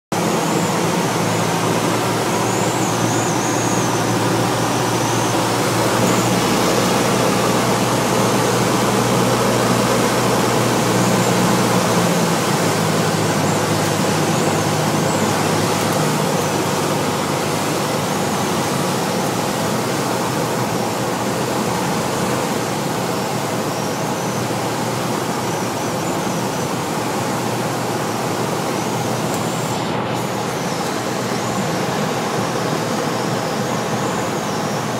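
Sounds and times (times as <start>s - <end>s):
aircraft piston engine and propeller: 0.1s - 34.9s.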